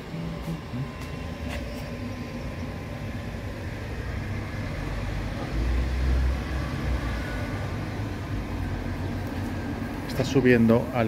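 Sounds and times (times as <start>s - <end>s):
lift motor humming: 0.0s - 11.0s.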